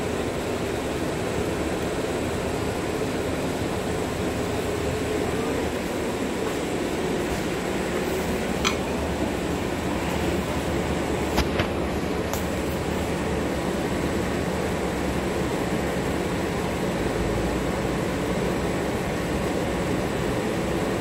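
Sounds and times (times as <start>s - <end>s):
tram hum and rumble: 0.0s - 21.0s.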